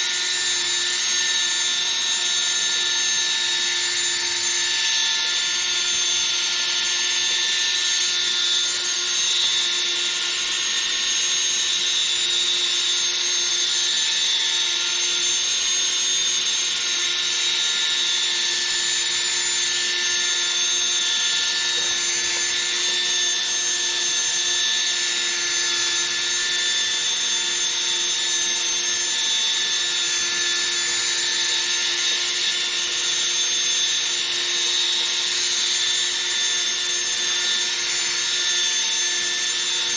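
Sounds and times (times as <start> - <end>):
cordless drill motor whine: 0.0 - 39.9.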